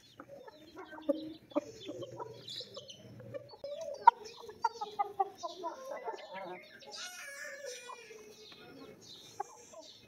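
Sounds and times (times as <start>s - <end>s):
chick peeps: 0.0s - 10.0s
chickens clucking: 0.0s - 10.0s.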